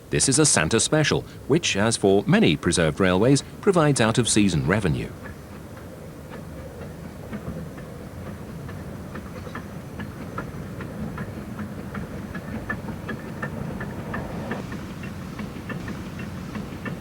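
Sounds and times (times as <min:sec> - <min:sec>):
train rumbling: 0:00.0 - 0:17.0
light rail clicks: 0:00.1 - 0:17.0.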